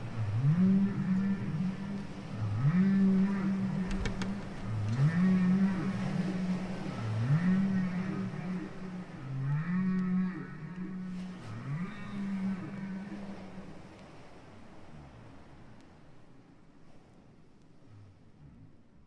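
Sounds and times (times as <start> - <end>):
low wordless sung tone: 0.0 - 19.0.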